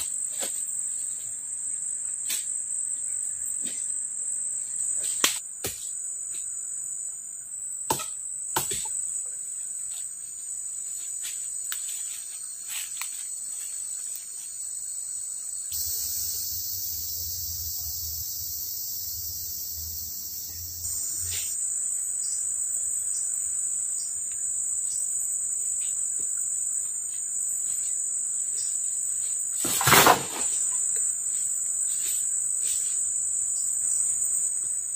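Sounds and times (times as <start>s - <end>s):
insects droning: 0.0s - 34.9s.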